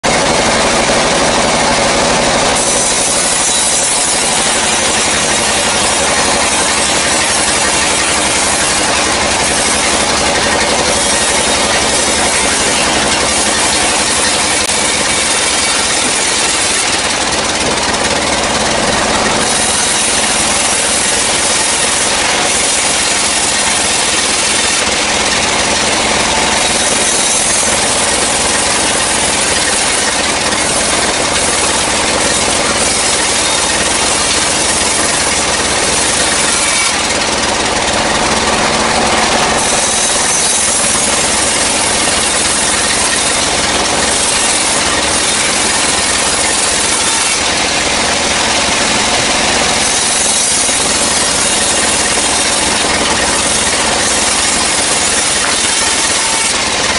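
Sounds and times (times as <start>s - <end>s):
sawmill saw cutting log: 0.0s - 56.9s.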